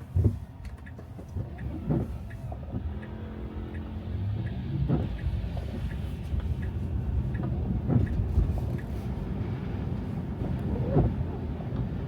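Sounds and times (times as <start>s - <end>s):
car driving on snowy road: 0.0s - 12.0s.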